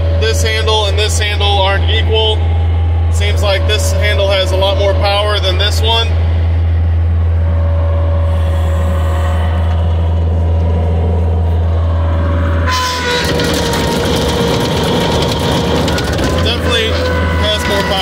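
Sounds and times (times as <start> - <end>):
loader engine humming: 0.0 - 18.0
thin steady whine: 0.0 - 18.0.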